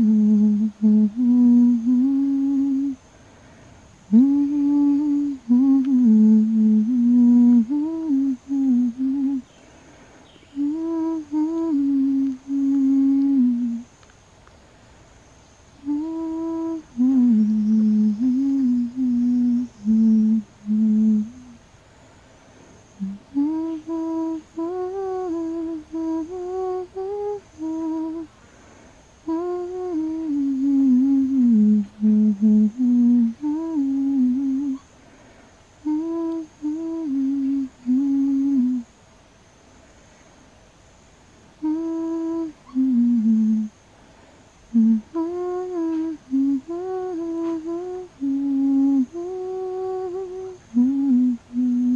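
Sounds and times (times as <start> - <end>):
person humming slow tune: 0.0 - 14.0, 15.8 - 21.7, 22.8 - 28.5, 29.1 - 35.0, 35.8 - 39.0, 41.6 - 43.8, 44.7 - 51.9.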